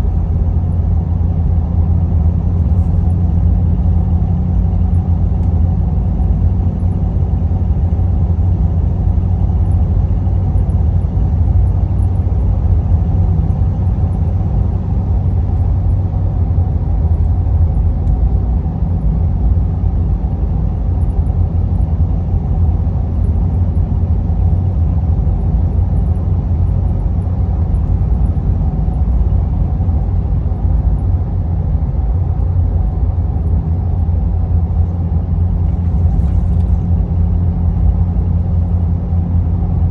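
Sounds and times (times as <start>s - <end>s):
diesel exhaust low drone: 0.0s - 39.9s
tire hum and road noise: 0.0s - 39.9s.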